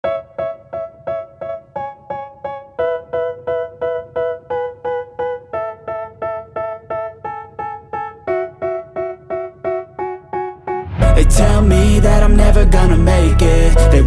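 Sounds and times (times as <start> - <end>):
keyboard playing repeated chords: 0.0 - 14.0.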